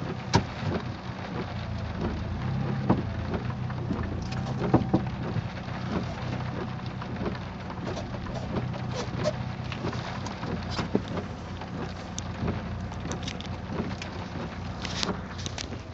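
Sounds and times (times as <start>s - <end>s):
car body creaks and clicks: 0.0s - 15.9s
engine and road noise drone: 0.0s - 15.9s.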